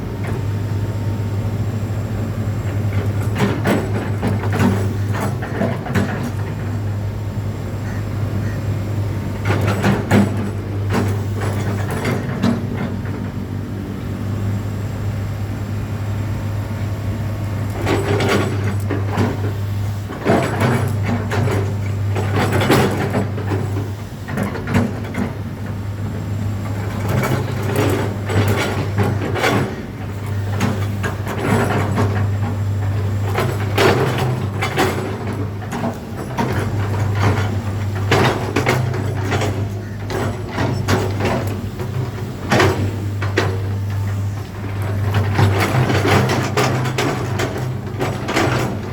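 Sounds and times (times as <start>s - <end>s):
excavator diesel engine running: 0.0s - 48.9s
machine clattering and knocking: 2.6s - 6.9s, 9.4s - 13.4s, 17.7s - 48.9s.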